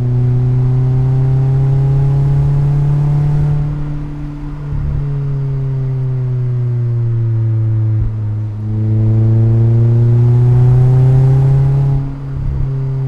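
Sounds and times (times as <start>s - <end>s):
car engine and exhaust: 0.0s - 13.0s.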